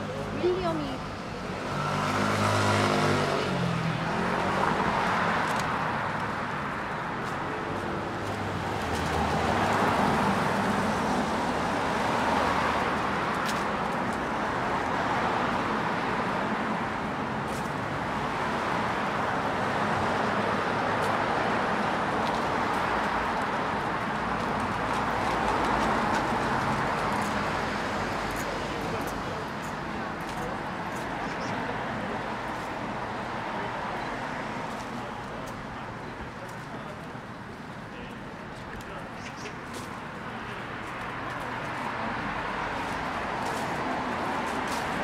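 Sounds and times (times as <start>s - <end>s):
cars passing by: 0.0s - 45.0s.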